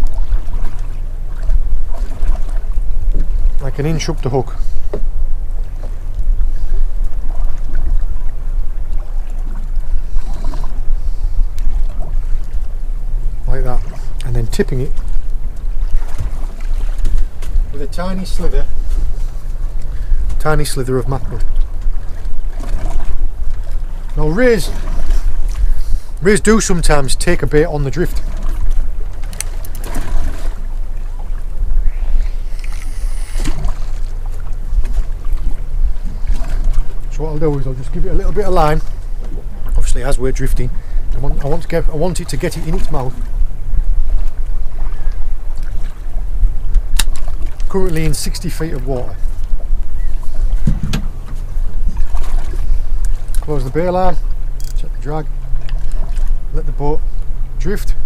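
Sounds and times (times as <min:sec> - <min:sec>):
water against hull: 0:00.0 - 0:58.0
wind around boat: 0:00.0 - 0:58.0.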